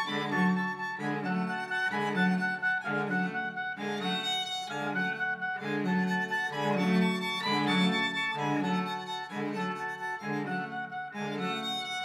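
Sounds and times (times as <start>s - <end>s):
string instrument music: 0.0s - 12.0s.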